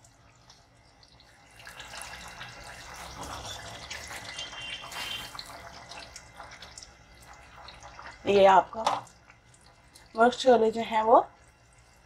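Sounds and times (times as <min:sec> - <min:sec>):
gravy bubbling in a pot: 0:00.0 - 0:12.0.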